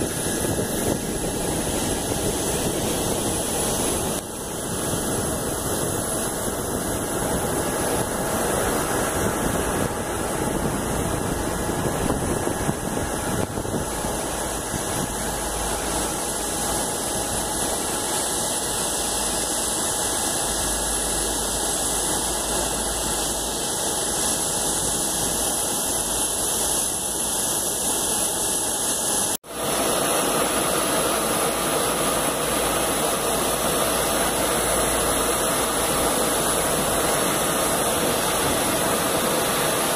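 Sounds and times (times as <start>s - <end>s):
jet engines rushing: 0.0s - 39.9s.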